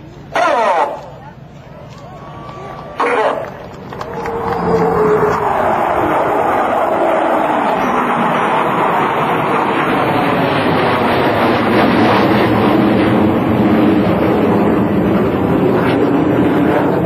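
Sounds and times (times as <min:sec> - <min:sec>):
jets flying overhead: 0:00.2 - 0:17.0.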